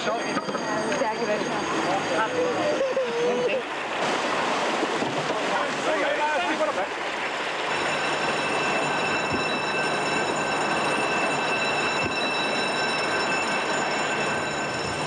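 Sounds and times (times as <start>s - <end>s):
thin high whine: 0.0s - 4.0s, 5.9s - 15.0s
steady loud rushing noise: 0.0s - 15.0s.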